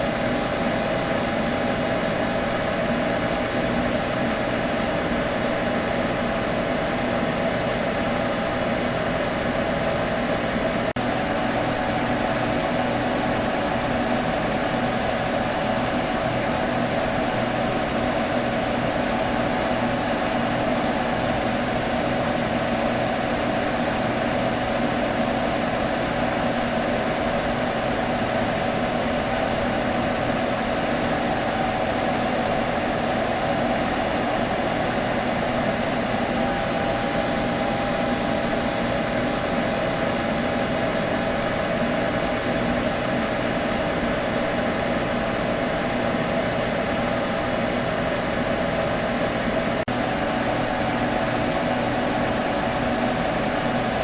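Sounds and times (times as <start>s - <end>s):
computer fan whirring: 0.0s - 54.0s.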